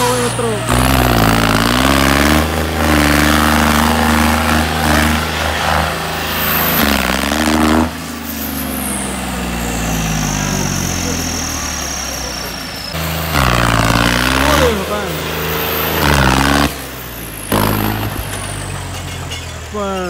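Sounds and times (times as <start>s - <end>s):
tractor diesel engine revving: 0.0s - 20.0s.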